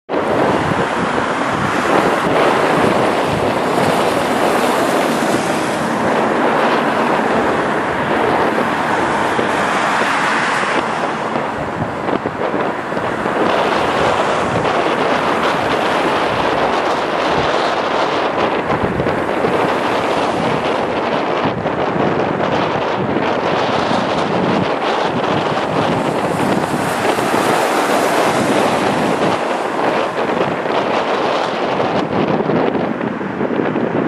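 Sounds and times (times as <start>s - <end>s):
wind buffeting microphone: 0.1s - 34.0s.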